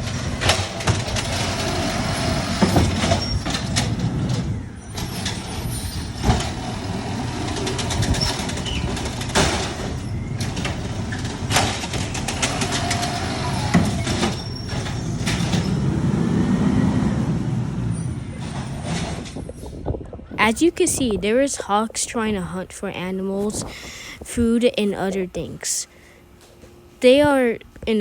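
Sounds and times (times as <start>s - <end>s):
garbage truck engine rumbling: 0.0s - 28.0s.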